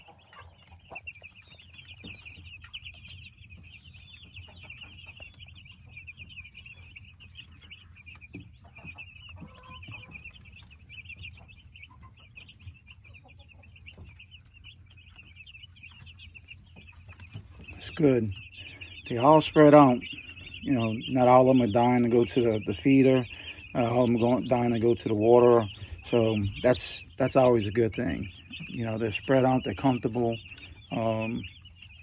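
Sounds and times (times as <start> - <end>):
chicks peeping: 0.0 - 32.0.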